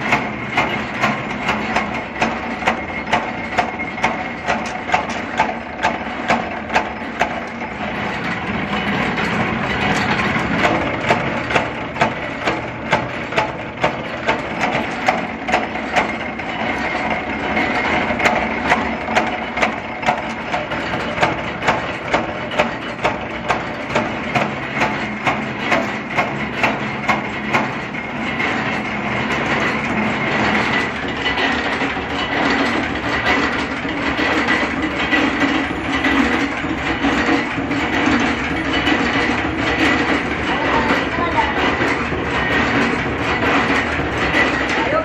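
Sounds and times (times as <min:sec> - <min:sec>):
continuous machine noise: 0:00.0 - 0:45.0.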